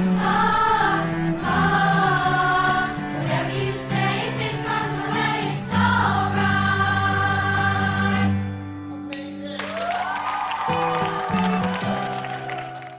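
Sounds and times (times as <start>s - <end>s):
choir-like voices in music: 0.0s - 10.2s, 10.8s - 12.9s.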